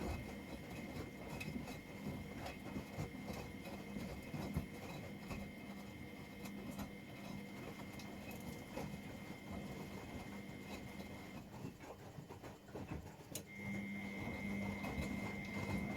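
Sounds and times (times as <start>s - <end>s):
washing machine motor hum: 0.0s - 15.9s.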